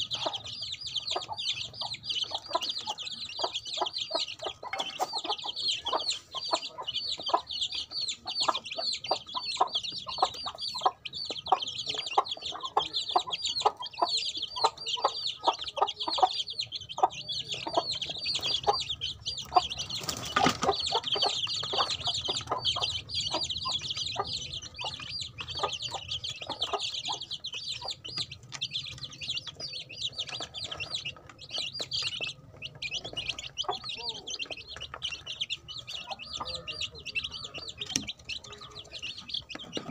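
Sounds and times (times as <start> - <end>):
beaks pecking at feed tray: 0.0 - 39.9
chicks peeping: 0.0 - 39.9.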